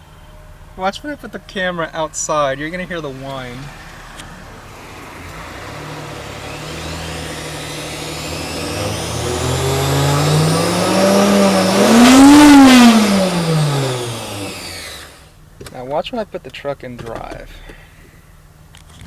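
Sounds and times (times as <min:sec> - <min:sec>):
high whine: 0:00.0 - 0:15.3
truck engine revving: 0:00.0 - 0:15.4.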